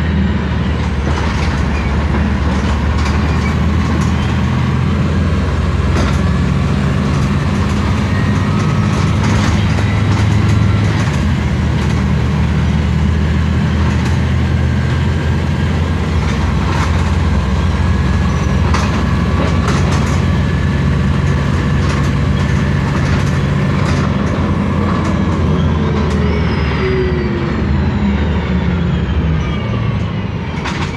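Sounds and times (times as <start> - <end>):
road vehicle rumble: 0.0 - 30.9.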